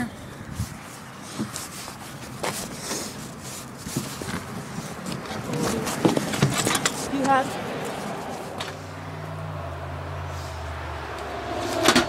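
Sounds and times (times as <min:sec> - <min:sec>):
scooter wheels rolling on asphalt: 0:00.1 - 0:12.0.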